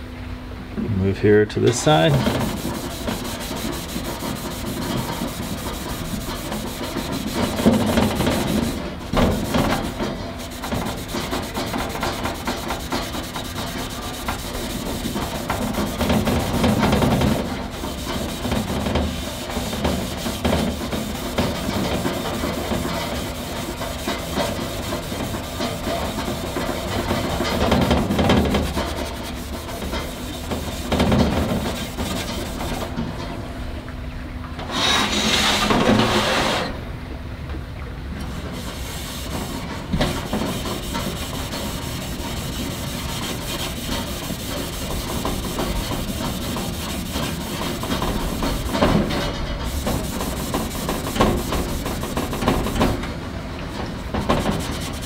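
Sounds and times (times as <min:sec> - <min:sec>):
abrasive pad scrubbing steel: 0:01.6 - 0:33.0, 0:34.6 - 0:36.8, 0:38.4 - 0:53.0, 0:54.1 - 0:55.0.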